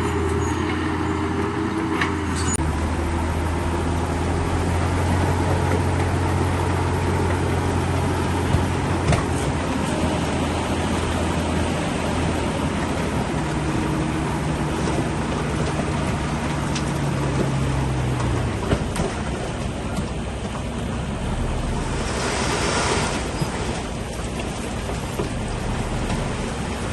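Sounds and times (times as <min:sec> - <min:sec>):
diesel machinery engine drone: 0:00.0 - 0:26.9.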